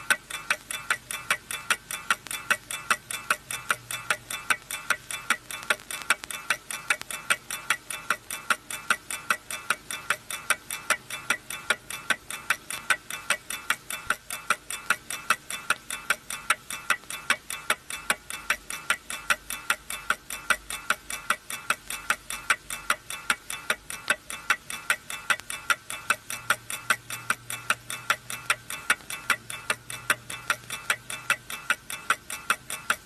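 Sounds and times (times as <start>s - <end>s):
watch ticking: 0.0s - 33.0s.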